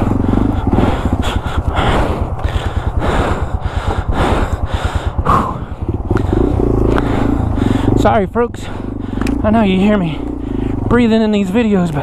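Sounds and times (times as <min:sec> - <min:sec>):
heavy rhythmic breathing: 0:00.0 - 0:12.0
motorcycle engine pulsing: 0:00.0 - 0:12.0.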